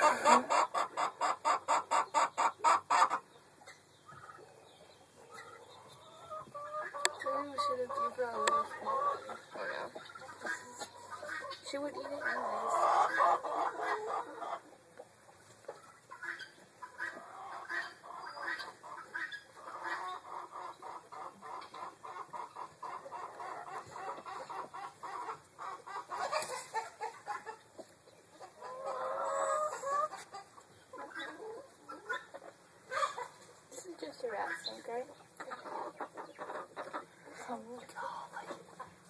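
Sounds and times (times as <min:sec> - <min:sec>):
chickens clucking: 0:00.0 - 0:39.0.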